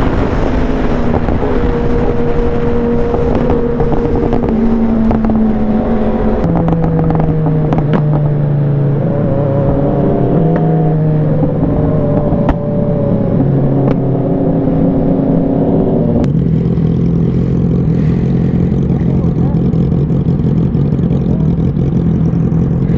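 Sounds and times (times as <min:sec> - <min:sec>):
motorcycle engine under load: 0:00.0 - 0:22.9.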